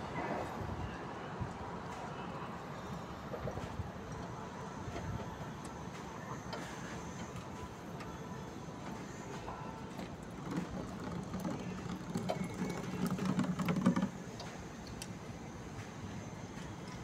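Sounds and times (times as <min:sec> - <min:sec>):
low mechanical buzz: 0:00.0 - 0:17.0.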